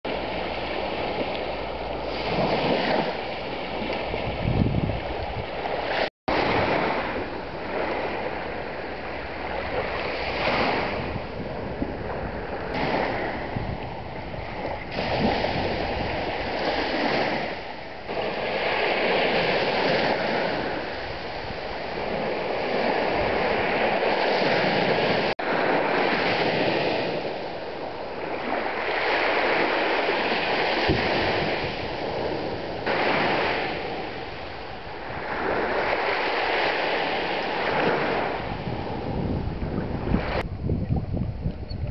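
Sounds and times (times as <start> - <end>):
waves breaking on a beach: 0.1 - 40.5.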